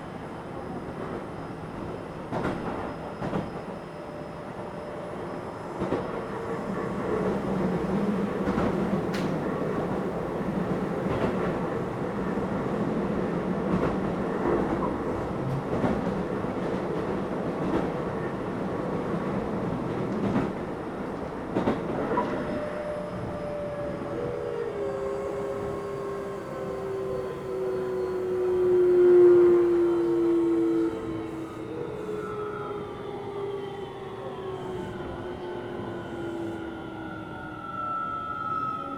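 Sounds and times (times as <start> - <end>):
train rolling noise: 0.4 - 36.7.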